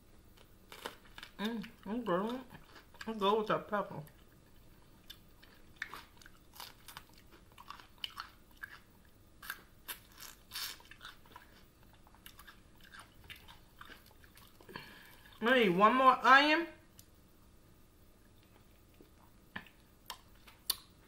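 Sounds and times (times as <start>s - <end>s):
person chewing crunchy pepper: 0.4s - 15.4s, 18.4s - 21.0s.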